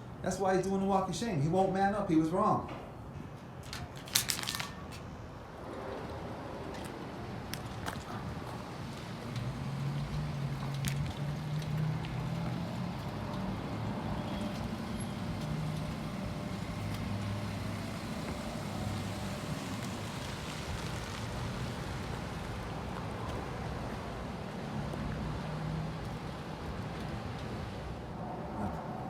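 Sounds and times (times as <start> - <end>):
road traffic engines humming: 0.0 - 29.0.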